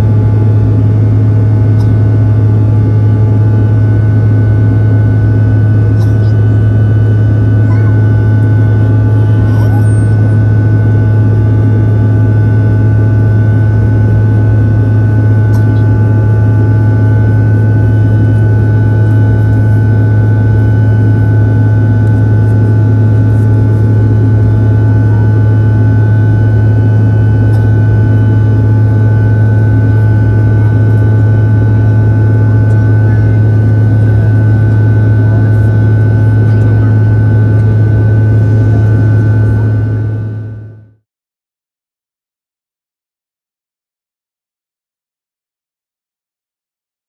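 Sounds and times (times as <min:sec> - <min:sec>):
jet engines droning: 0:00.0 - 0:40.9
faint steady whines: 0:00.0 - 0:41.0.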